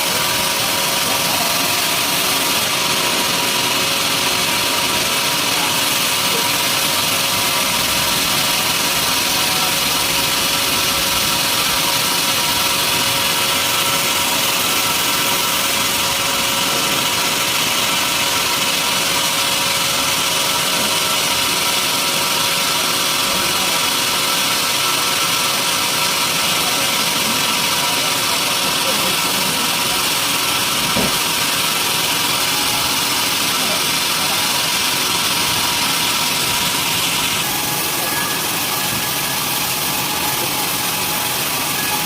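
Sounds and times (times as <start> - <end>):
sawmill machinery running: 0.0 - 42.0.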